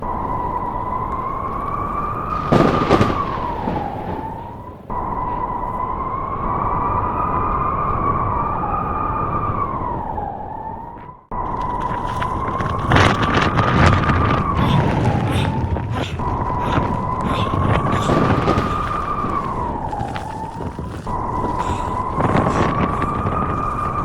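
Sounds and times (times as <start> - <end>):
howling blizzard wind: 0.0 - 24.0.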